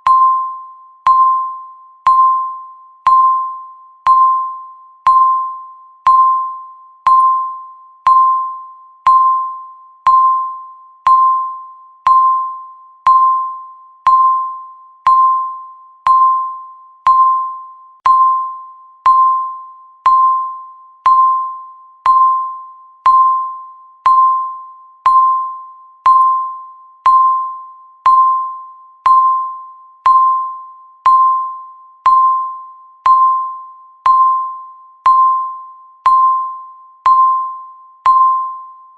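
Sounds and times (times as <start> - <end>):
high ringing tone: 0.0 - 38.9.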